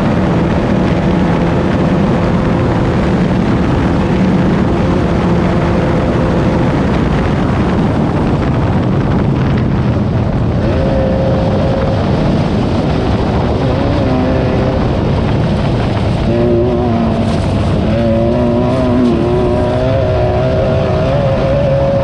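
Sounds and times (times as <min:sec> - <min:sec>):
loud wind noise: 0:00.0 - 0:22.0
race car engine running hard: 0:00.0 - 0:22.0.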